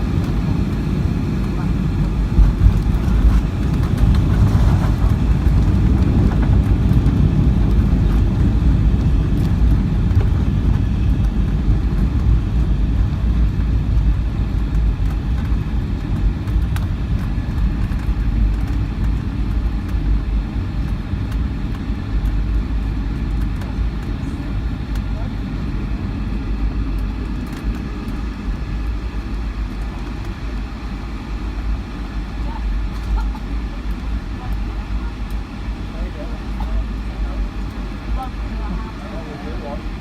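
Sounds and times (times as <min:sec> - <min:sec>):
airliner cabin engine rumble: 0:00.0 - 0:40.0.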